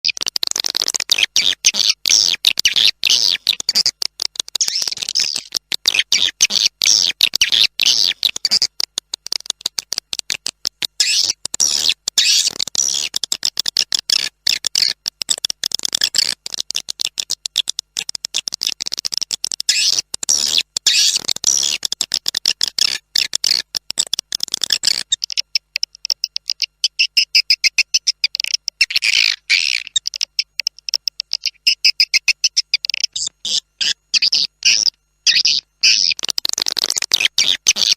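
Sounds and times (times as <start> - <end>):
swiftlet chirps and clicks: 0.0 - 37.9.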